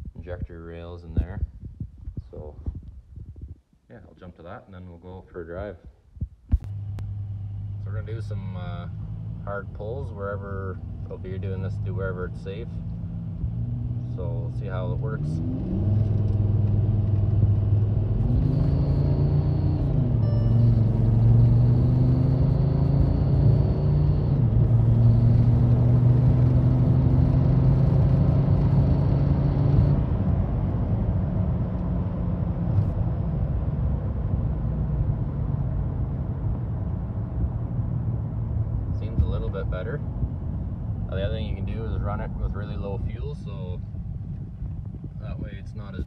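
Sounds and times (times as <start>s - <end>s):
diesel engine accelerating hard: 6.6s - 45.4s.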